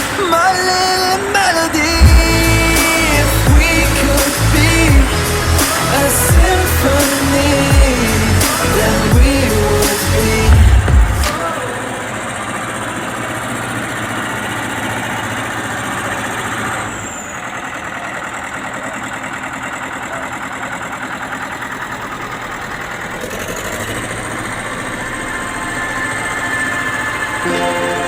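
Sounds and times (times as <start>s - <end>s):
grader diesel engine whining: 0.0s - 28.0s.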